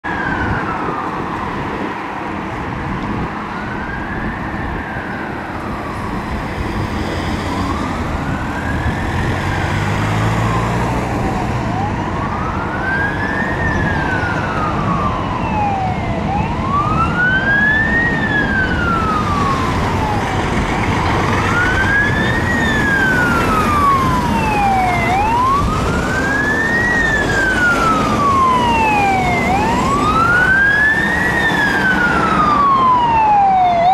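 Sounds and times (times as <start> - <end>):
fire engine wail siren: 0.0 - 33.9
road traffic noise: 0.0 - 33.9.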